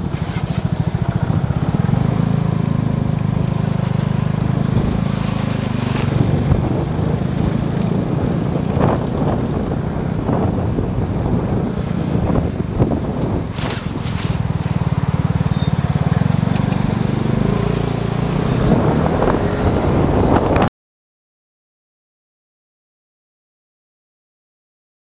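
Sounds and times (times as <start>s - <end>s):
scooter engine running: 0.0s - 20.6s
wind noise on microphone: 0.0s - 20.7s.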